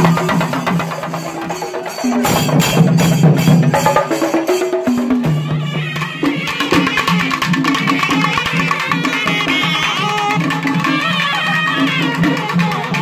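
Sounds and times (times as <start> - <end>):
drums played with sticks: 0.0 - 13.0.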